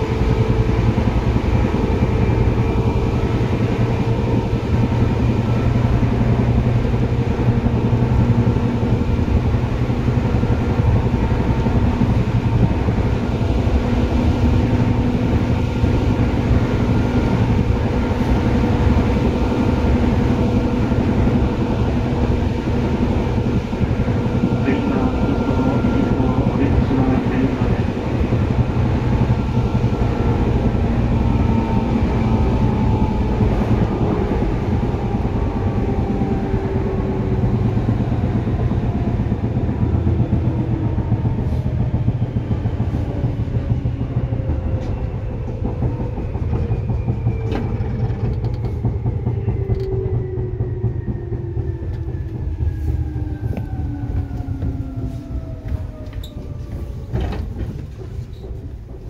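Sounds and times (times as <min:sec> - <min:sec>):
electric train rumble and motor whine: 0:00.0 - 0:59.0.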